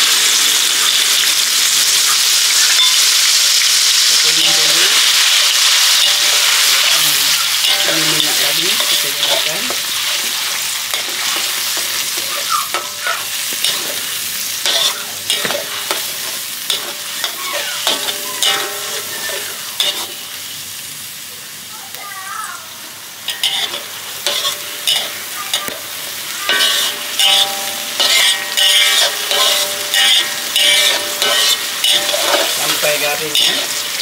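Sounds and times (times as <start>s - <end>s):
onion sizzling in hot oil: 0.0s - 34.0s
metal spatula scraping wok: 2.5s - 20.4s, 23.3s - 34.0s.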